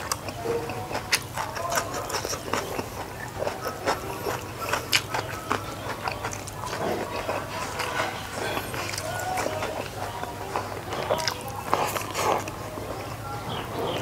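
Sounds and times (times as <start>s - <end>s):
person chewing and mouth sounds: 0.0s - 14.0s.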